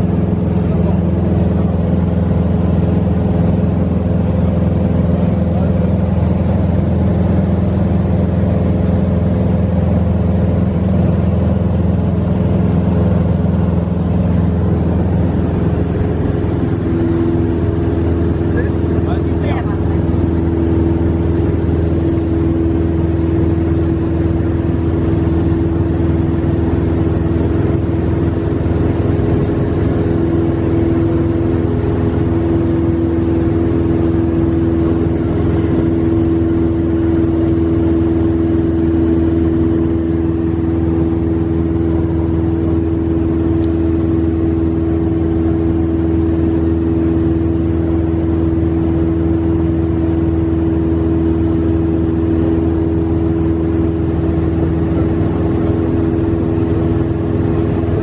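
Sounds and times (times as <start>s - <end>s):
light aircraft engine drone: 0.0s - 58.0s.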